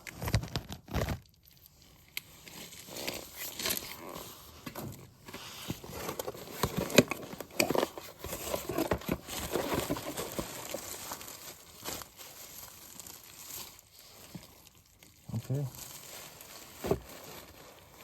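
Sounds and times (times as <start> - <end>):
plastic crinkling and rustling: 0.0 - 18.0.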